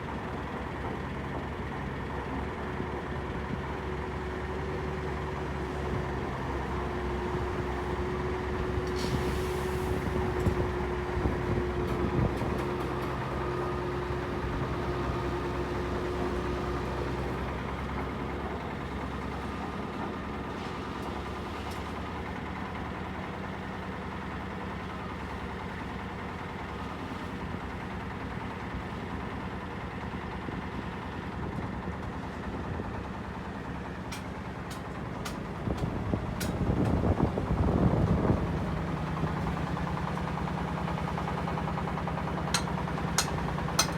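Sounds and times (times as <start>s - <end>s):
heavy engine idling: 0.0s - 43.9s.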